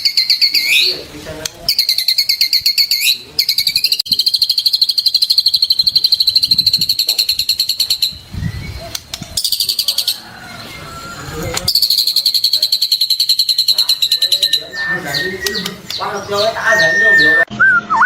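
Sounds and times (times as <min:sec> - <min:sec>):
songbird trilling: 0:00.0 - 0:01.0, 0:01.6 - 0:17.5.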